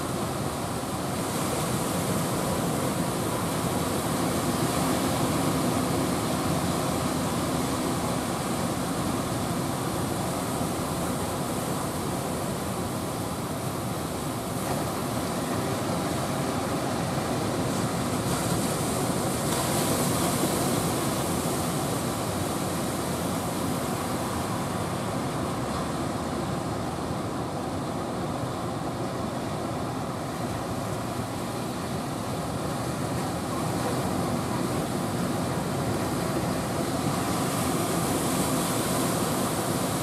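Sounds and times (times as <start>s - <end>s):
heavy surf breaking on shore: 0.0s - 40.0s.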